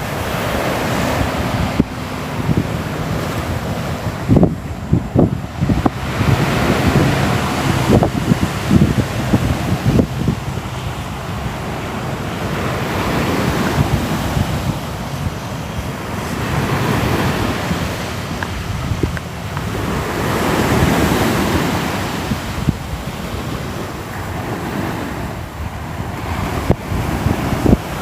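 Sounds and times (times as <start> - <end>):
ocean waves breaking: 0.0 - 28.0
wind rumble on microphone: 0.0 - 28.0.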